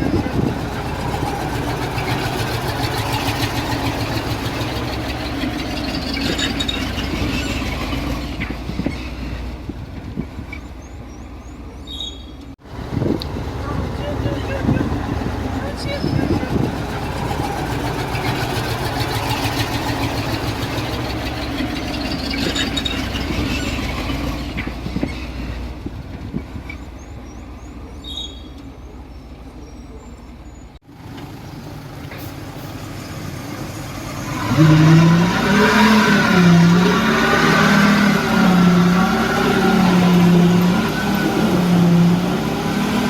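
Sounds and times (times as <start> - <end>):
engine revving: 0.0 - 10.9, 12.6 - 27.0, 30.8 - 43.0
heavy machinery engine running: 0.0 - 11.7, 12.4 - 28.0, 30.0 - 43.0.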